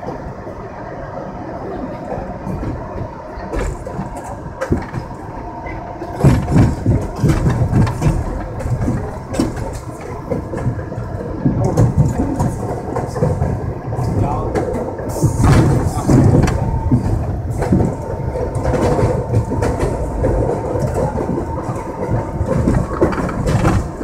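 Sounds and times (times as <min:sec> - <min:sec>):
train wheels rumbling on rail: 0:00.0 - 0:24.0
knocks at rail joints: 0:02.5 - 0:05.2, 0:06.1 - 0:24.0.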